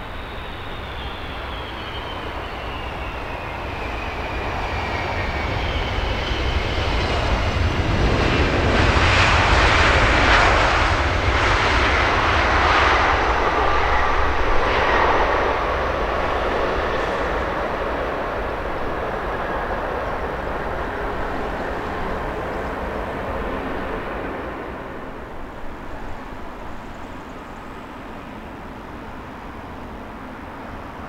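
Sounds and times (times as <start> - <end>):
jet airliner engine whine: 0.0 - 31.0.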